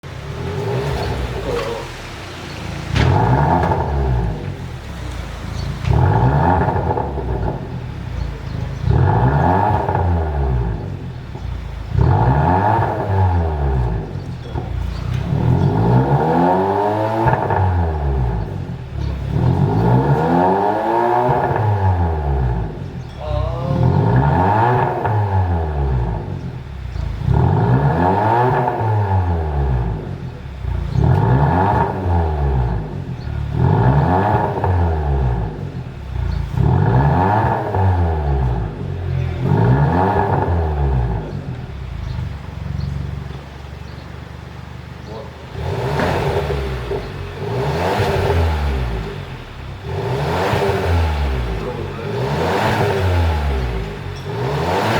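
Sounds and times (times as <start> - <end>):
car engine revving and idling: 0.0 - 54.9.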